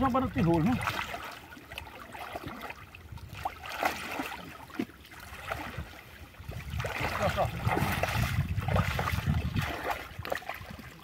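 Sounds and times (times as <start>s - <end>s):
small water splashes: 0.0s - 11.0s
water trickling: 0.0s - 11.0s.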